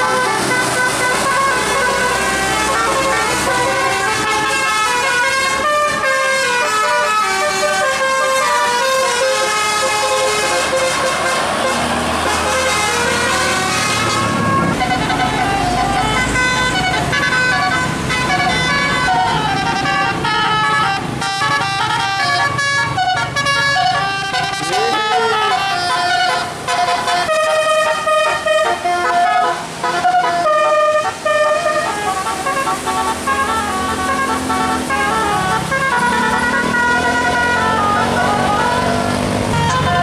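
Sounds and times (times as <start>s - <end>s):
musical bus air horn melody: 0.0s - 40.0s.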